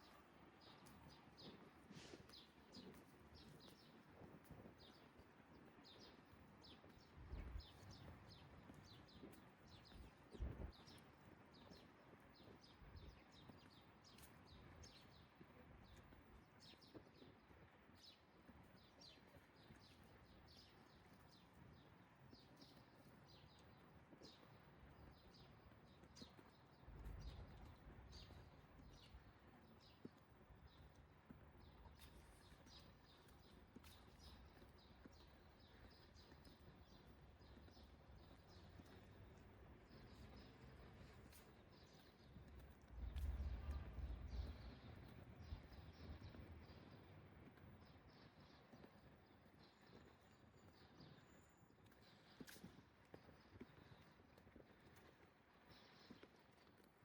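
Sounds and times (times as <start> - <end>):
faint morning background noise: 0.0 - 57.0
small birds chirping: 0.6 - 56.8.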